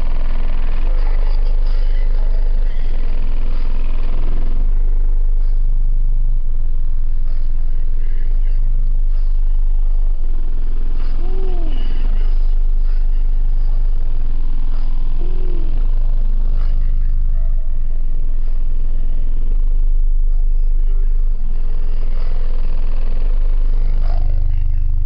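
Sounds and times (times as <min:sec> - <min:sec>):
loud bass music through subwoofer: 0:00.0 - 0:25.0.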